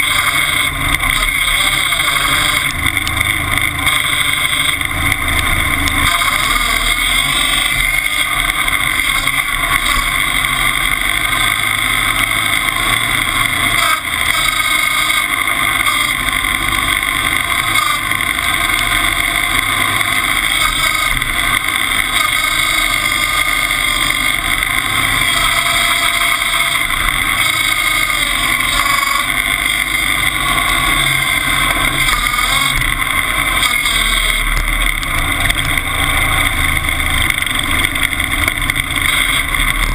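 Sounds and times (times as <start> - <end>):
skidder engine running: 0.0 - 39.9.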